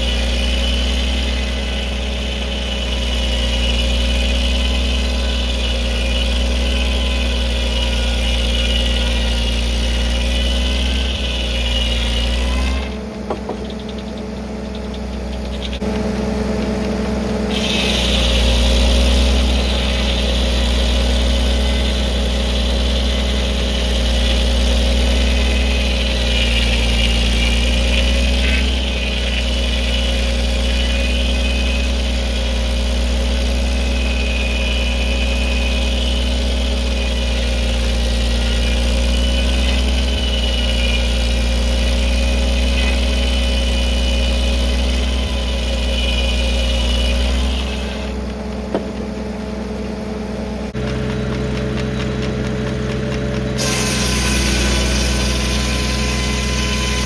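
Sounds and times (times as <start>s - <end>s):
steady high whine: 0.0s - 57.0s
tractor engine running: 0.0s - 57.0s.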